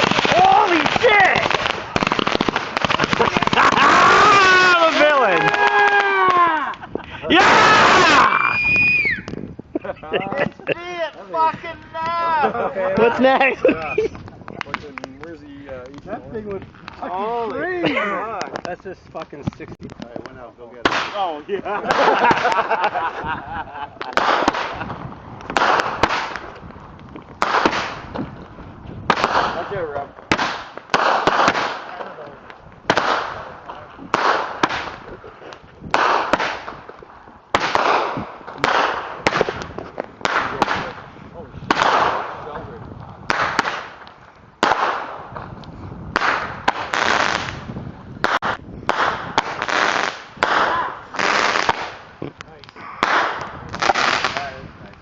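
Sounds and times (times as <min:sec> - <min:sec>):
fireworks bangs with crackling: 0:00.0 - 0:55.0.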